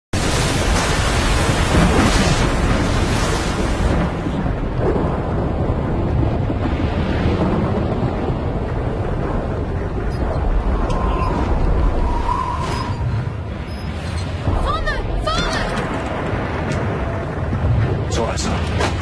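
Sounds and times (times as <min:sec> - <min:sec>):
deep rumble: 0:00.2 - 0:19.0
loud wind: 0:00.2 - 0:19.0
waves crashing: 0:00.2 - 0:19.0.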